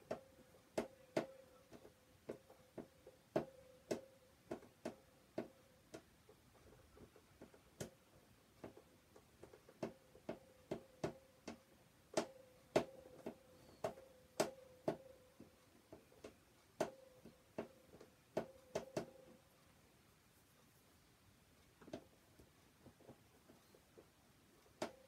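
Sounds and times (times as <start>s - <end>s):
faint steady tone: 0.0s - 25.0s.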